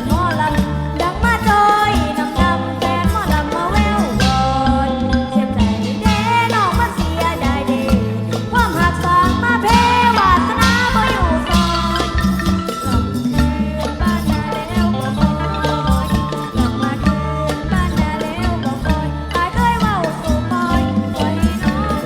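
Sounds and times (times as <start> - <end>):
folk band instrumental music: 0.0 - 22.0
shaken percussion: 0.0 - 22.0.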